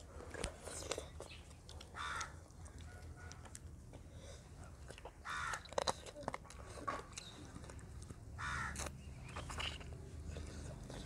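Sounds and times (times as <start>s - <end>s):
chewing and lip smacks: 0.0s - 11.0s.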